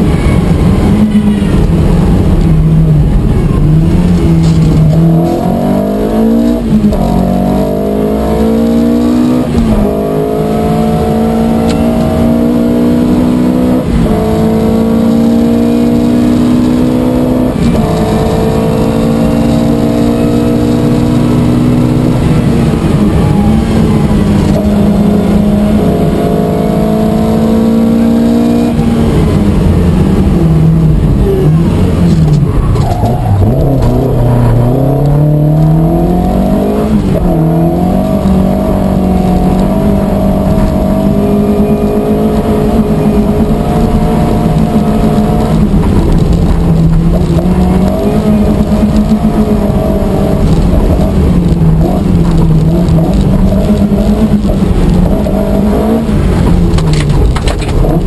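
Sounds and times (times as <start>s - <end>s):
rally car engine at full throttle: 0.0s - 58.0s.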